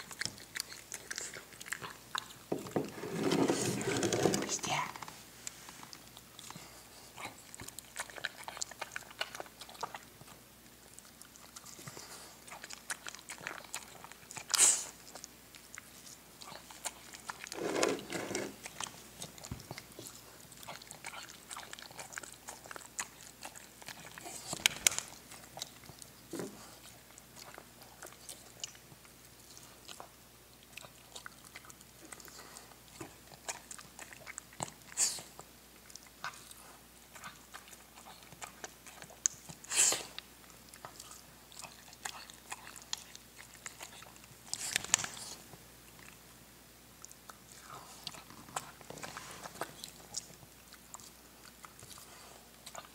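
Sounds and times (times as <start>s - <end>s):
dog crunching and chewing food: 0.0s - 46.3s, 46.9s - 52.9s.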